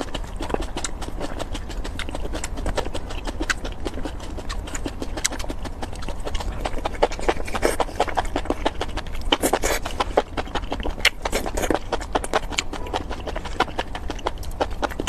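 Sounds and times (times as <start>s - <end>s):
chewing with mouth clicks: 0.0s - 15.0s.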